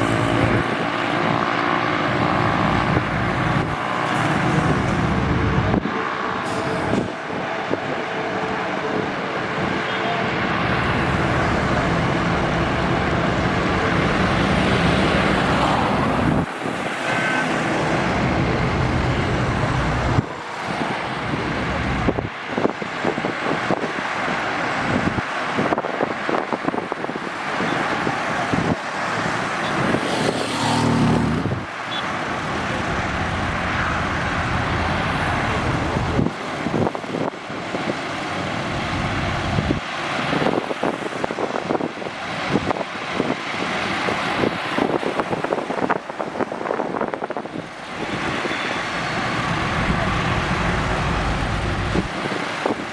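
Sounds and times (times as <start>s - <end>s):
highway traffic passing: 0.0s - 52.9s.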